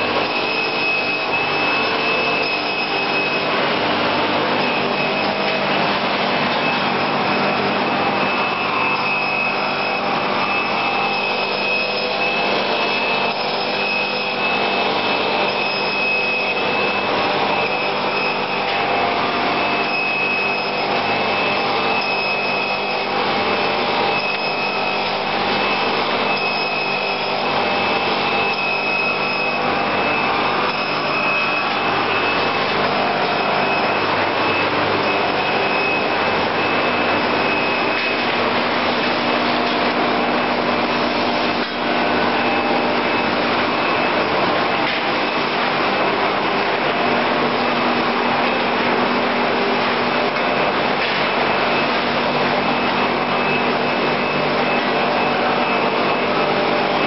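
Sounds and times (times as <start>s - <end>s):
binding machine grinding and whining: 0.0s - 57.0s.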